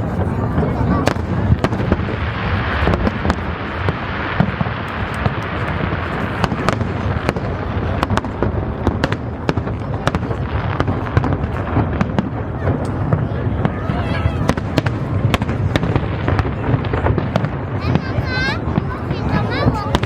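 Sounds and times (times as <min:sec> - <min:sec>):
firework cracks and pops: 0:00.0 - 0:20.0
rumble of firework bursts: 0:00.0 - 0:20.0.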